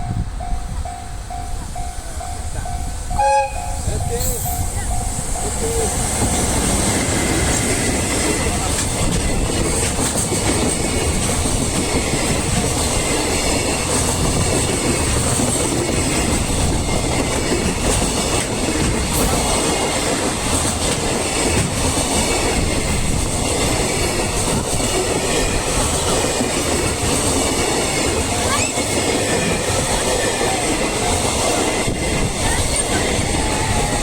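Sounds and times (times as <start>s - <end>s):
train wheels clattering on rails: 3.8s - 34.0s.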